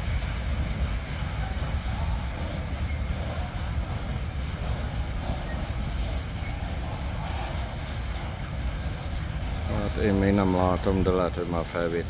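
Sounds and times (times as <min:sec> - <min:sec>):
freight train rumbling: 0:00.0 - 0:12.0.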